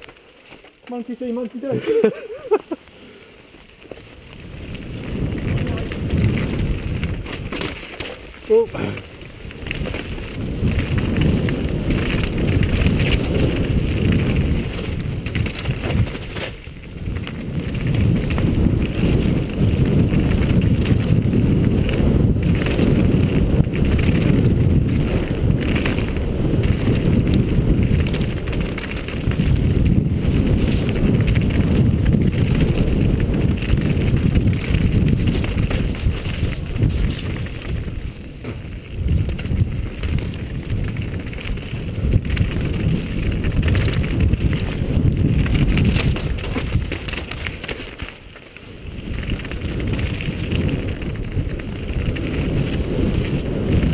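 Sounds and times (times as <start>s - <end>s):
bike tyres on dirt: 0.0s - 53.9s
heavy wind rush on microphone: 0.9s - 53.9s.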